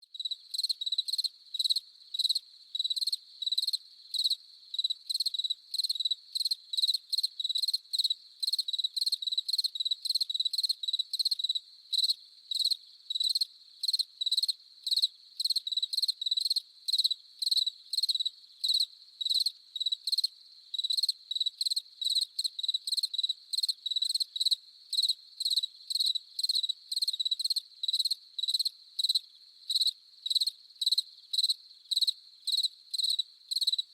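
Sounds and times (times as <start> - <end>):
faint chorus of crickets: 0.0 - 33.9
cricket chirping: 0.1 - 33.9.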